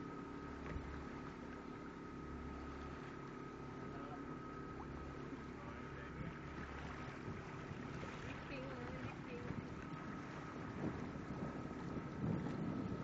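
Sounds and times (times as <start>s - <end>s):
boat engine running: 0.0s - 13.0s
wind: 0.0s - 13.0s.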